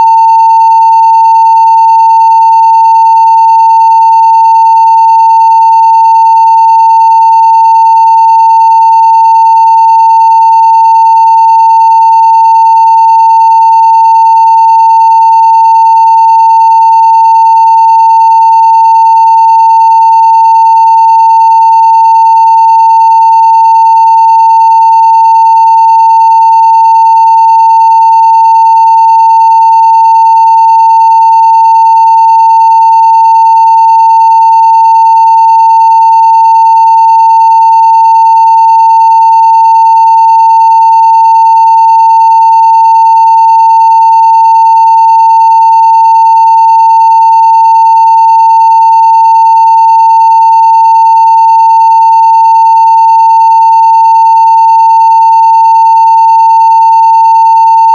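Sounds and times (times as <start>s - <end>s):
sine-wave test tone: 0.0s - 57.9s.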